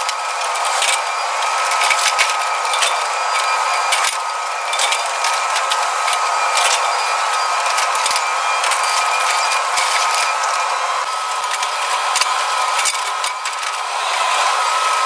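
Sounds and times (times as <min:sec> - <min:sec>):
machinery whining: 0:00.0 - 0:15.0.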